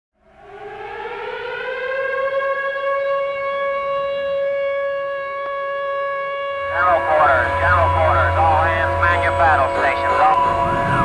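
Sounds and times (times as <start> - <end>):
siren wailing: 0.2 - 11.0.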